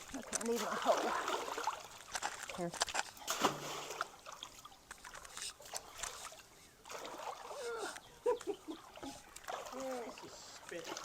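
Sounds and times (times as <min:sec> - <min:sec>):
creek water trickling: 0:00.0 - 0:11.0
water sloshing from wading: 0:00.0 - 0:11.0.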